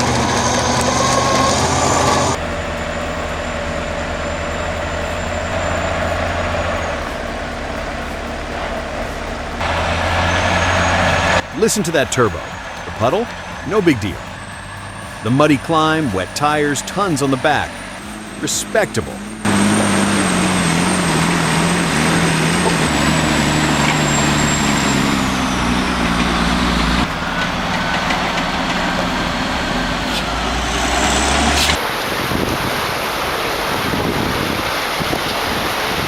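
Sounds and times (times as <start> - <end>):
diesel truck engine labouring: 0.0 - 36.0
high turbo whistle: 0.0 - 36.0
low engine drone: 0.0 - 36.0
steady rushing noise: 0.0 - 36.0.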